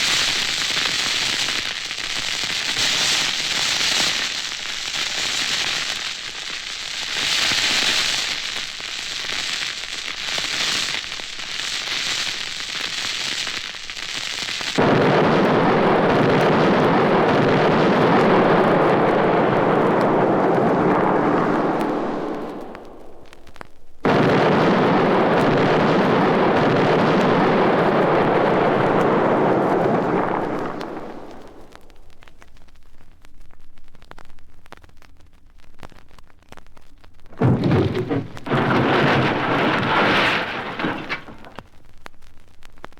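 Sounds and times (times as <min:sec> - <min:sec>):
dense crackling and popping: 0:00.0 - 0:42.9.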